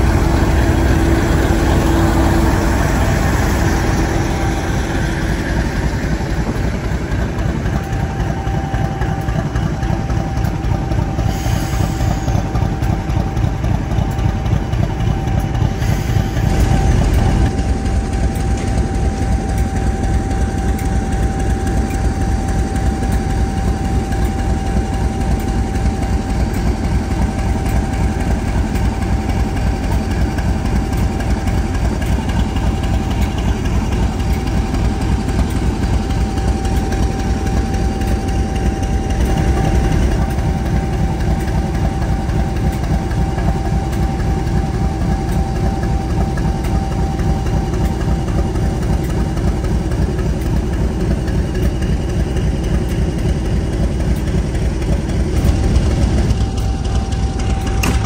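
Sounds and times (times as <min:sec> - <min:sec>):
diesel locomotive engine idling: 0:00.0 - 0:58.0.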